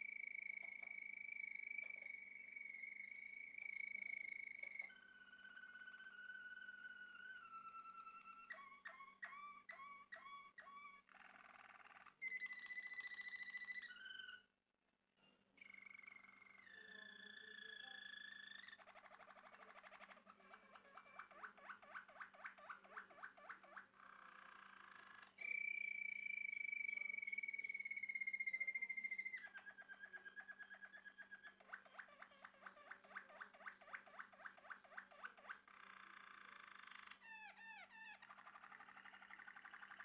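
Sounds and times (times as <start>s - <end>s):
canary singing: 0.0s - 14.5s, 15.6s - 40.0s.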